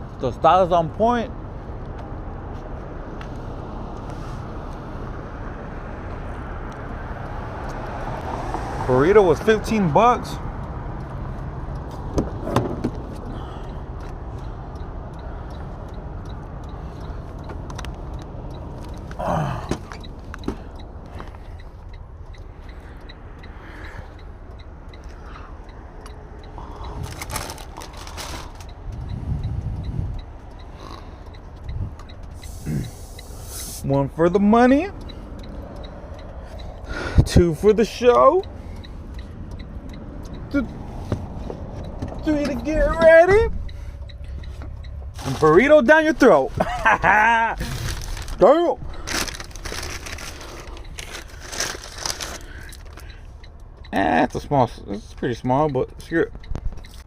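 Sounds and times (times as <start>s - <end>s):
road traffic rumble: 0.0s - 57.0s
vehicle engine idling: 0.0s - 57.0s
faint high ticking: 9.4s - 57.0s.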